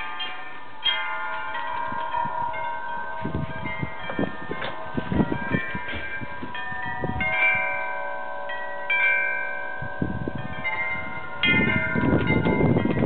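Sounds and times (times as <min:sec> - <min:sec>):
metal wind chimes ringing: 0:00.0 - 0:13.0
wind rumbling on microphone: 0:01.4 - 0:13.0.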